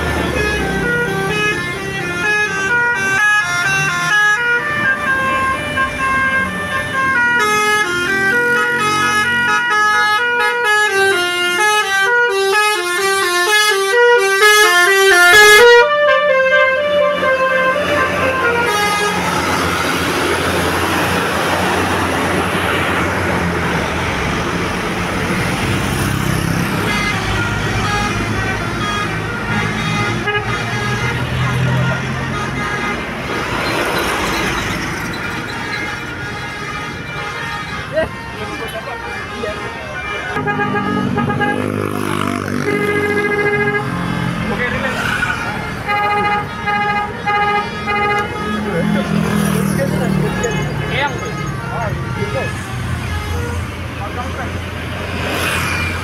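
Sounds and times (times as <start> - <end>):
bus horn playing a tune: 0.0 - 56.0.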